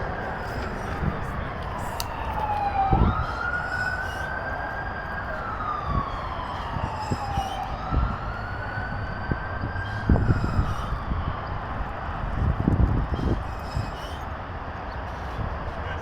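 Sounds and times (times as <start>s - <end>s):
emergency vehicle siren wailing: 0.0s - 16.0s.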